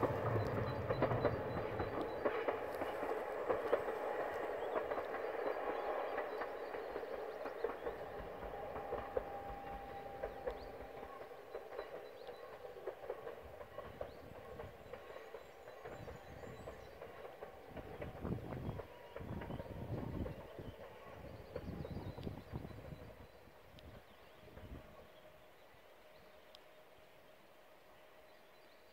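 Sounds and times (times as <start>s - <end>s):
train wheel clicks: 0.0s - 24.0s
distant train rail rumble: 0.0s - 28.9s.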